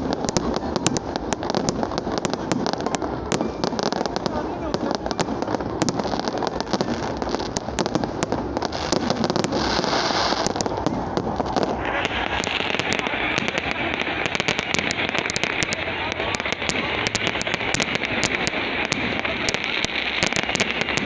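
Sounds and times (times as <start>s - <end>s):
fireworks crackling and popping: 0.0s - 21.0s
steady hiss: 0.0s - 21.0s.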